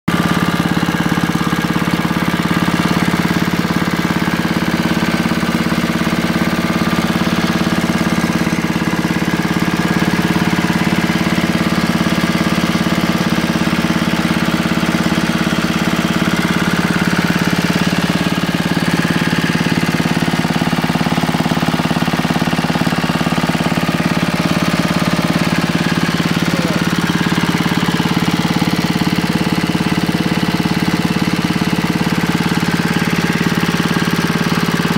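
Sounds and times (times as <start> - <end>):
single-cylinder engine running: 0.1 - 34.9.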